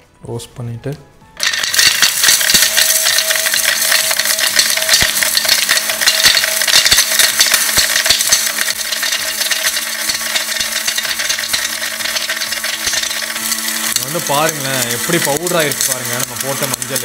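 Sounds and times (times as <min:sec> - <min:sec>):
dry pieces rattling in grinder jar: 0:01.4 - 0:17.0
grinder motor hum: 0:01.4 - 0:17.0.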